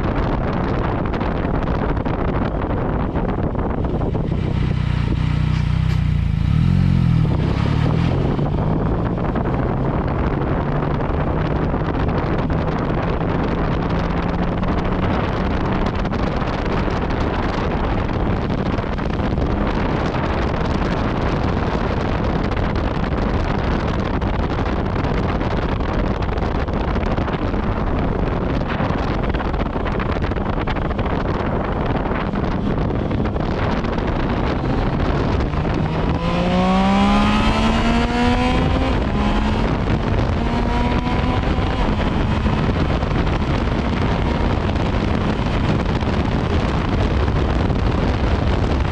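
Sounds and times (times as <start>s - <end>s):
motorcycle engine cruising: 0.0s - 48.9s
wind rush on microphone: 0.0s - 48.9s.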